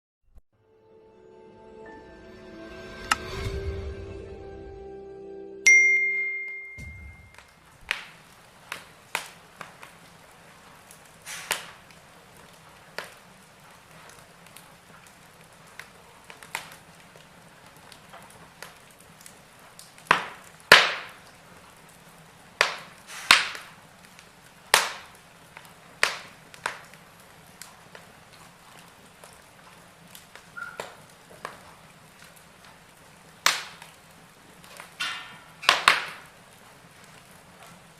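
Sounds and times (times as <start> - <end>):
wood fire crackling: 6.8 - 37.9.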